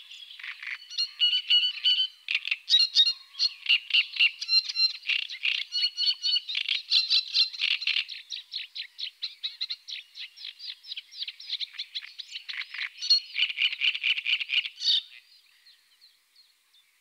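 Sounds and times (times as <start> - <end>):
warbler singing: 0.0 - 17.0.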